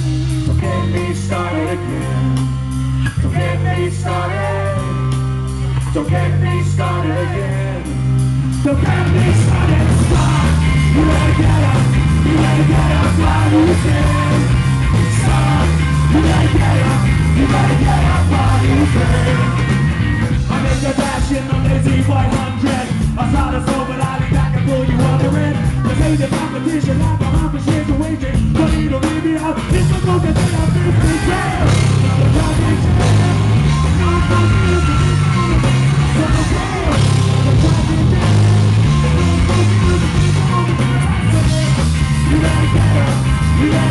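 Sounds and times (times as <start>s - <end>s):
live rock band playing: 0.0s - 43.9s
man singing into microphone: 0.5s - 2.4s, 3.2s - 5.1s, 5.9s - 8.0s, 8.6s - 19.7s, 20.4s - 43.9s.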